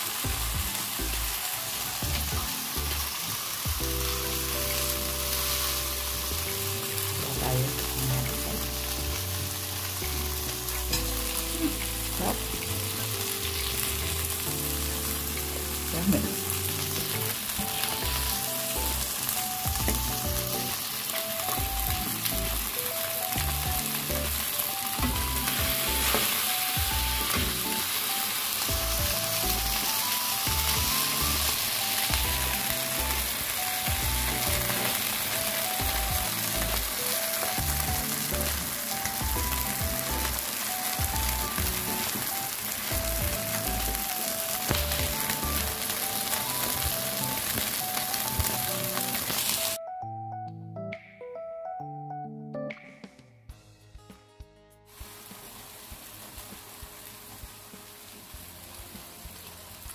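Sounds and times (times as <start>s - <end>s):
oysters sizzling in oil: 0.0s - 49.8s, 54.9s - 59.9s
background music: 0.0s - 59.9s.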